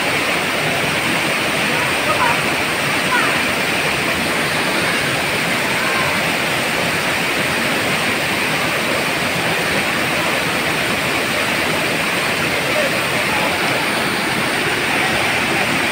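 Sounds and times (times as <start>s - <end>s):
water cascading over rocks: 0.0s - 15.9s
waterfall rushing: 0.0s - 15.9s.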